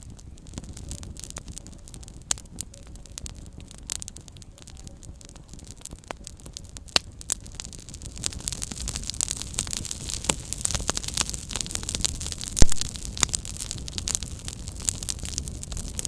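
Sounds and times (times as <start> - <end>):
burning wood snapping and popping: 0.0 - 16.0
low rumble of flame: 0.0 - 16.0.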